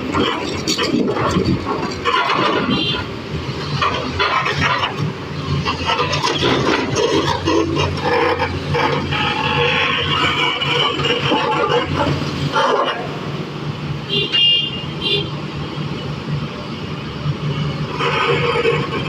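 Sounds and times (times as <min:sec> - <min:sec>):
diesel engine running: 0:00.0 - 0:14.1, 0:15.0 - 0:19.0.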